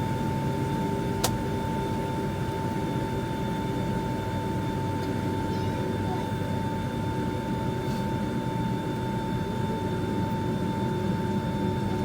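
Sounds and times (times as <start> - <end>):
airliner cabin rumble and whine: 0.0 - 12.0.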